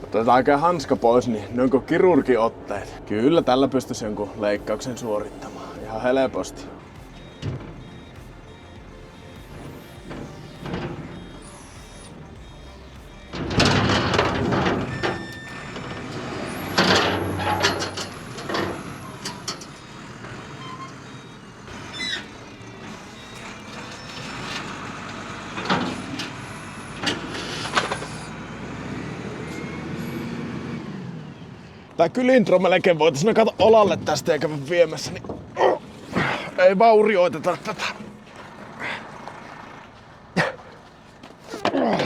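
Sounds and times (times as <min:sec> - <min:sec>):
wheel loader running: 0:00.0 - 0:42.0.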